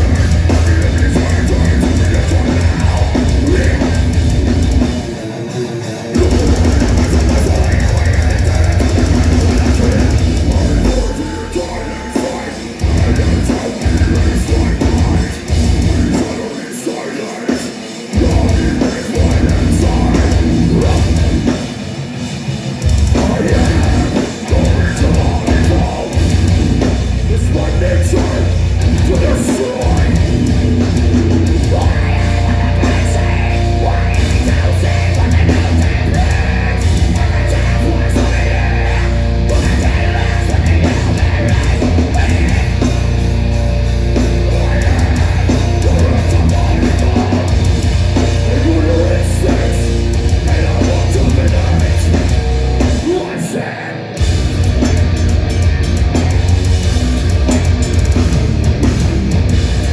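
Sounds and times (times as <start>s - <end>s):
bass guitar: 0.0s - 16.6s, 18.1s - 59.9s
distorted guitars: 0.0s - 59.9s
drum kit: 0.0s - 59.9s.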